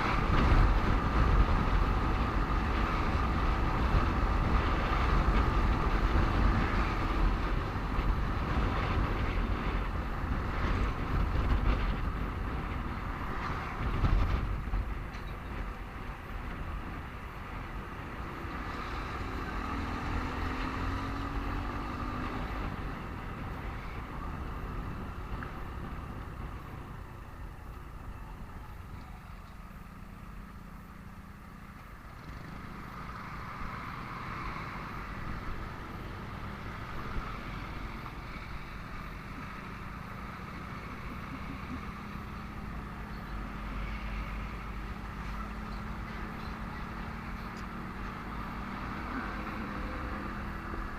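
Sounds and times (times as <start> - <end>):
road noise: 0.0 - 50.9
surrounding vehicles: 0.0 - 50.9.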